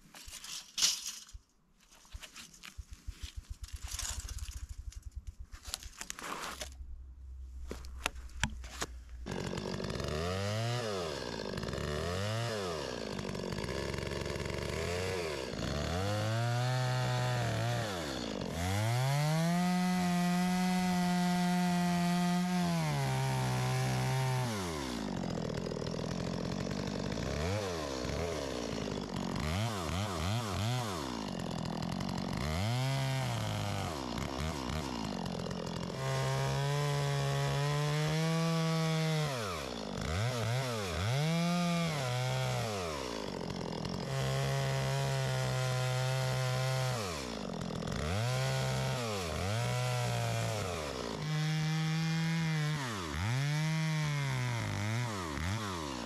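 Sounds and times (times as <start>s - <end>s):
chainsaw revving and cutting wood: 3.2s - 5.8s, 7.7s - 56.0s.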